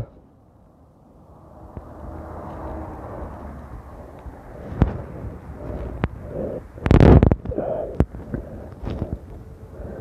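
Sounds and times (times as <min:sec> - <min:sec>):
bus engine rumble: 0:00.0 - 0:10.0.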